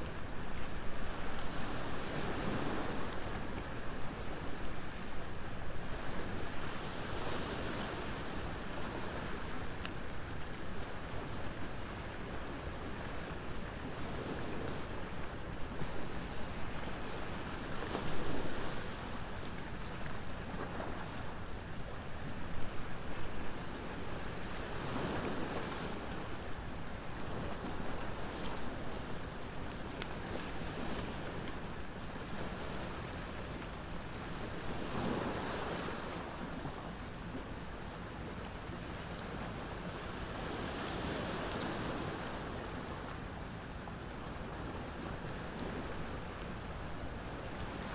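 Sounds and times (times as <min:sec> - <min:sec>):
sea waves washing ashore: 0:00.1 - 0:47.9.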